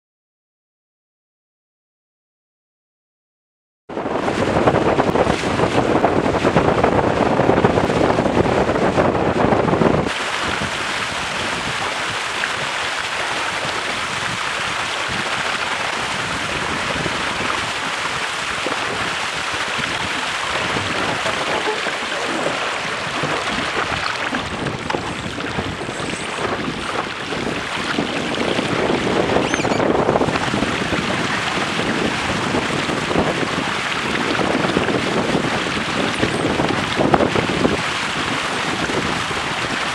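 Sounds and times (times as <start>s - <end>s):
wind buffeting microphone: 3.9s - 39.9s
water rushing and splashing on hulls: 4.0s - 39.9s.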